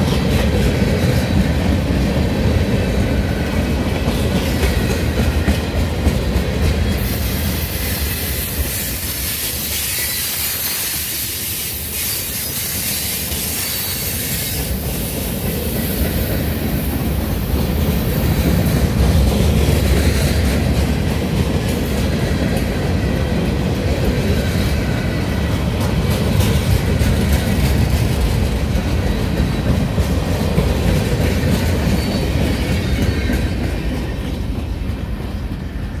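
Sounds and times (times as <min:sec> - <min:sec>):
train wheels clattering over rail joints: 0:00.0 - 0:35.8.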